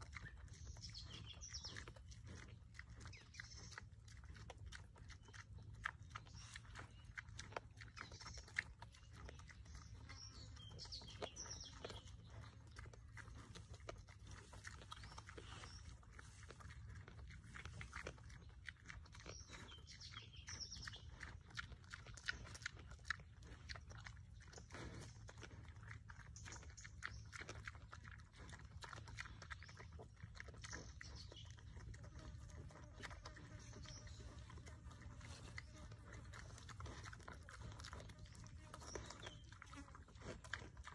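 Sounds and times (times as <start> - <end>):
pig crunching grain: 0.0 - 40.9
pig snuffling: 0.0 - 40.9.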